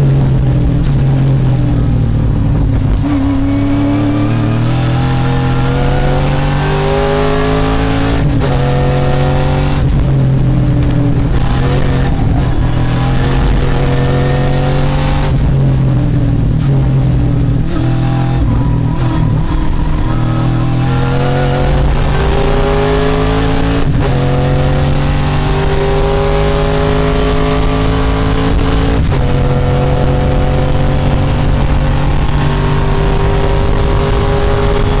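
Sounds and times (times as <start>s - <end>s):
engine upshifting: 0.0s - 35.0s
race car engine accelerating: 0.0s - 35.0s.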